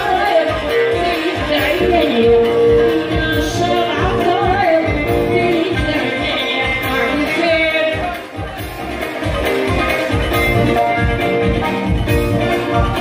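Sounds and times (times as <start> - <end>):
keyboard and instruments: 0.0 - 13.0
person singing: 0.0 - 13.0
steady dance beat: 0.0 - 13.0.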